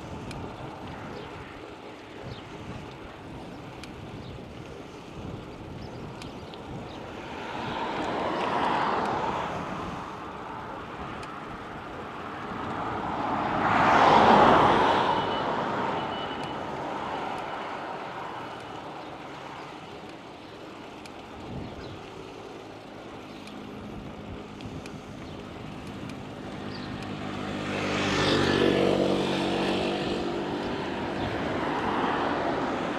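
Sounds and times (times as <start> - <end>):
cars passing by: 0.0 - 32.9.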